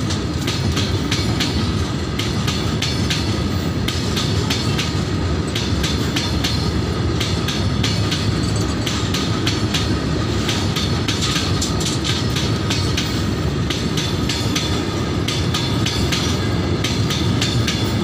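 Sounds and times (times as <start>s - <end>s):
freight train rumbling past: 0.0s - 18.0s
wheels clacking over rail joints: 0.0s - 18.0s.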